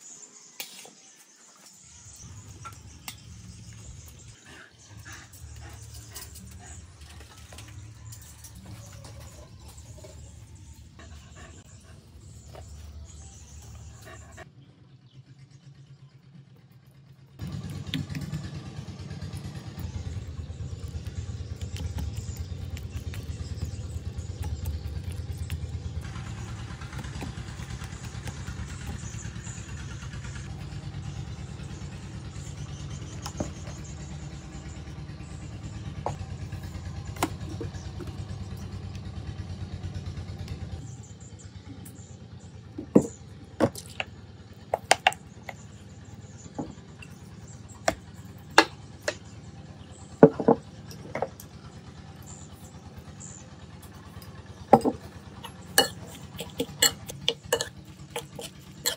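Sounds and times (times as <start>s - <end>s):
low engine-like rumble: 1.8s - 58.9s.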